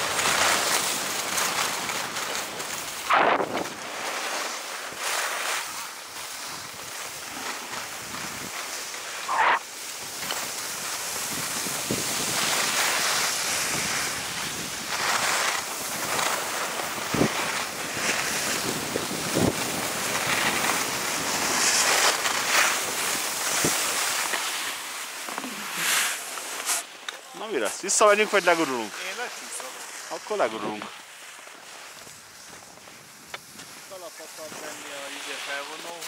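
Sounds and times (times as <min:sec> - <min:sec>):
skis scraping over snow: 0:00.0 - 0:36.0.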